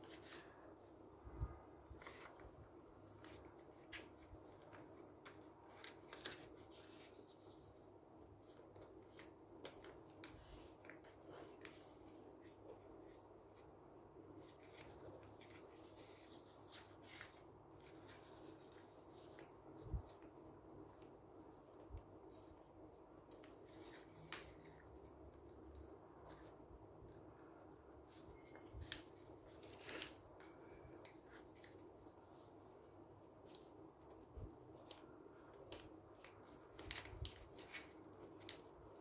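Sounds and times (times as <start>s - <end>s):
paper rustling and crinkling: 0.0s - 1.0s, 1.8s - 7.8s, 8.4s - 13.6s, 14.3s - 27.2s, 28.0s - 39.0s.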